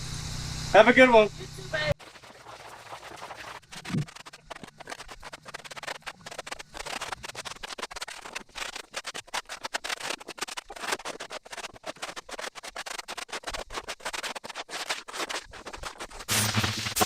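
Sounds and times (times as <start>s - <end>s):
hand tool scraping concrete: 2.1s - 17.0s.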